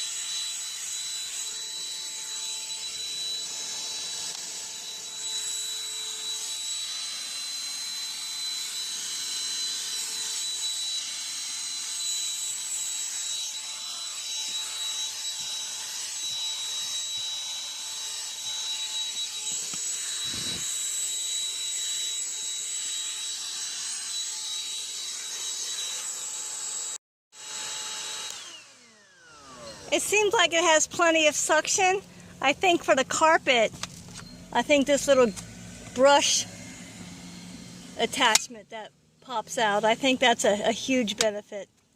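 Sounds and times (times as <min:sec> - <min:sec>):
handheld vacuum running: 0:00.0 - 0:41.5.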